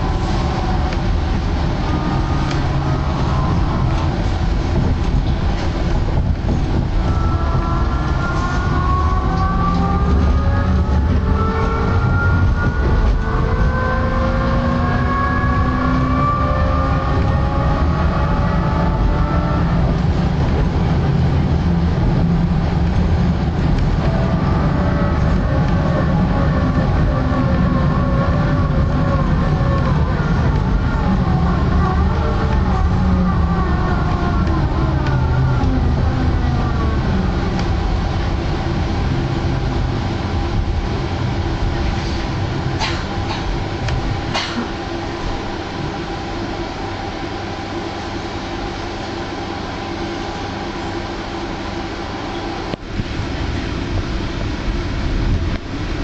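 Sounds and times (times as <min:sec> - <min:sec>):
electric tram drive whining: 0:00.0 - 0:56.0
wheels rumbling on rails: 0:00.0 - 0:56.0.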